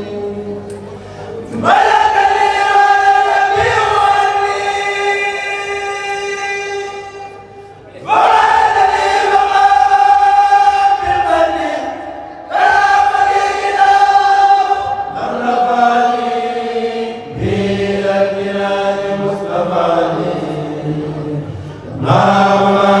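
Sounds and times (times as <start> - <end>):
group of voices chanting a cappella: 1.4 - 23.0.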